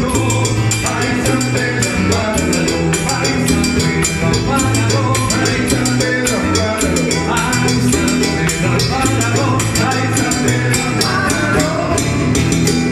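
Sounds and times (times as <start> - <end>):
salsa music: 0.0 - 12.9.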